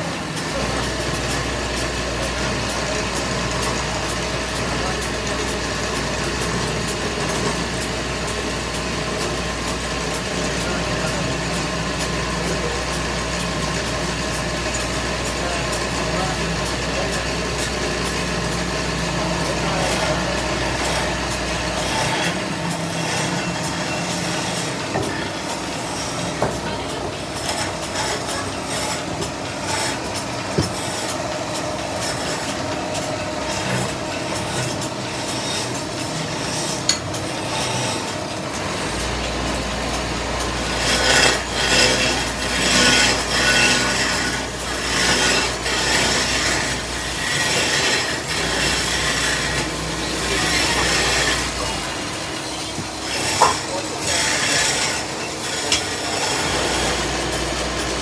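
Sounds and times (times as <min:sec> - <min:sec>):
wood lathe running: 0:00.0 - 0:58.0
chisel scraping spinning wood: 0:00.4 - 0:58.0.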